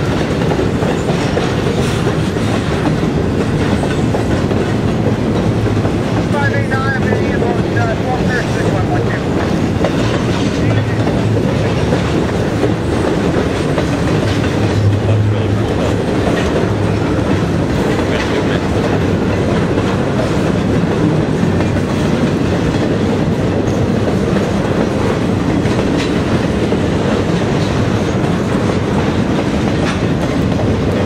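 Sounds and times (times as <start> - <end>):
freight train wheels rumbling: 0.0 - 31.0
wheels clattering over rail joints: 0.0 - 31.0.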